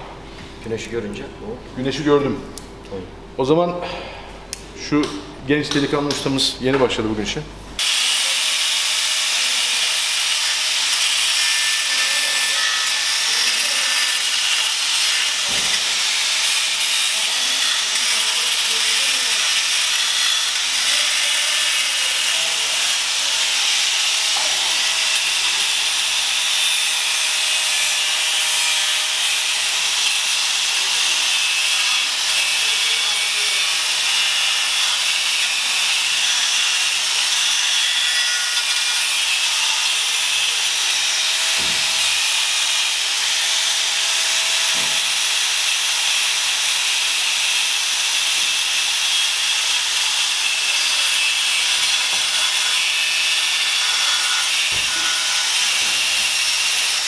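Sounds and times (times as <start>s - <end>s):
angle grinder cutting steel: 7.8s - 57.0s.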